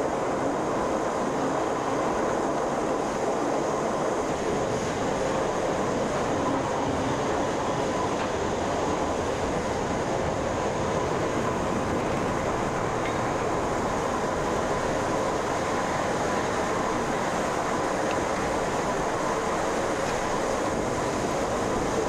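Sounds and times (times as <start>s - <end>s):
railcar rumble and hiss: 0.0s - 22.0s.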